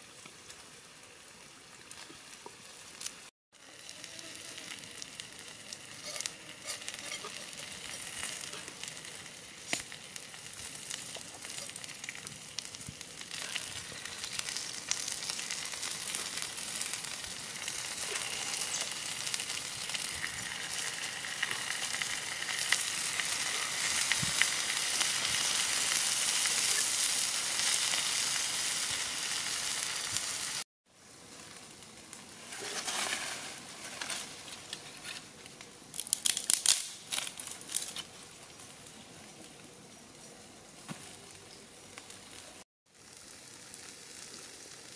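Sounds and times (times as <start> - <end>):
eels sizzling on hot stone: 0.3 - 38.6, 42.0 - 44.9.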